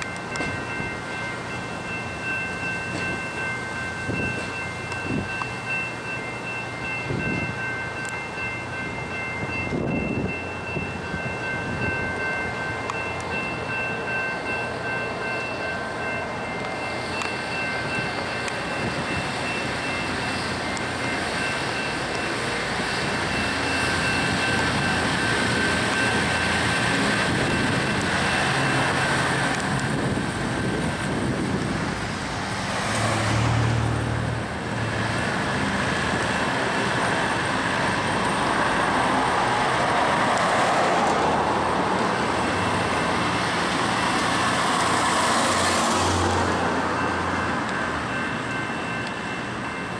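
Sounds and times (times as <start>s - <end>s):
steady high ringing tones: 0.0s - 32.9s, 42.0s - 49.9s
rail wheels rumbling on track: 0.0s - 49.9s.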